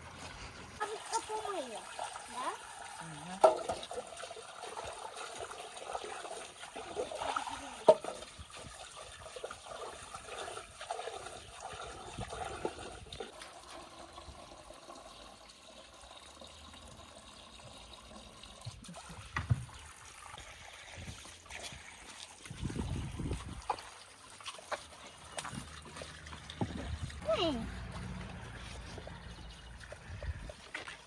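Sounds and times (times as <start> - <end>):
water trickling and splashing: 0.0 - 31.0.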